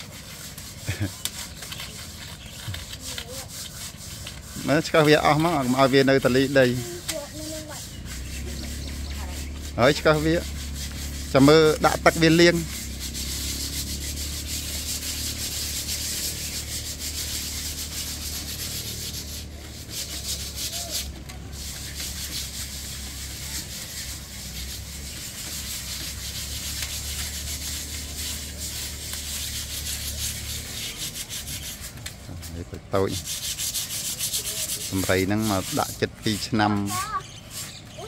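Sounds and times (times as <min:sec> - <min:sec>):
hand tools scraping paint: 0:00.0 - 0:38.0.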